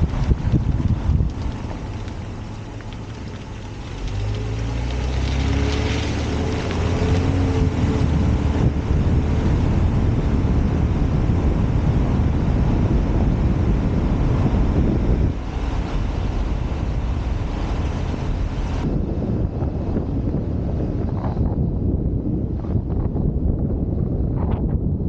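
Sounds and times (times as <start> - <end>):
car engine accelerating: 0.0 - 21.6
wind and road noise: 0.0 - 25.0.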